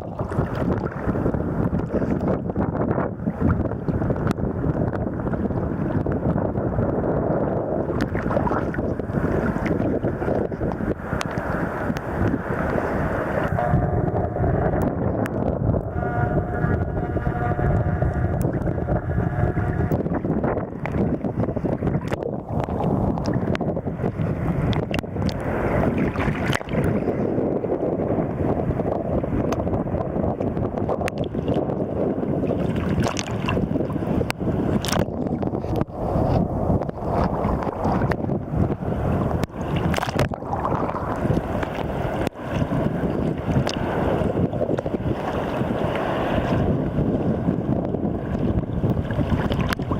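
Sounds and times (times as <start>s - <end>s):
sea water sloshing and splashing: 0.0s - 49.9s
waves breaking: 0.0s - 49.9s
wind buffeting microphone: 0.0s - 49.9s.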